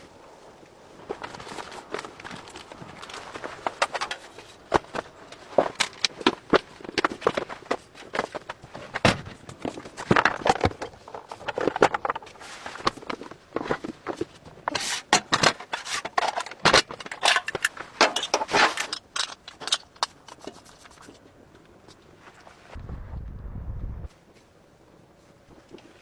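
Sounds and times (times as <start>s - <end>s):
scraping and crackling: 0.9s - 22.8s.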